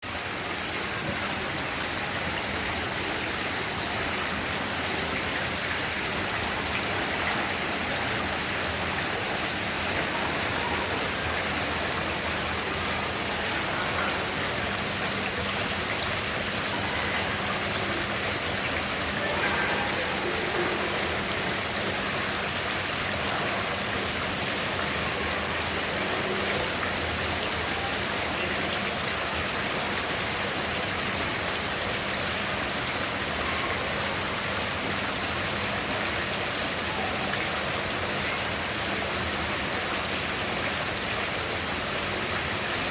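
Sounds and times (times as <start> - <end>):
fountain water splashing: 0.0 - 42.9.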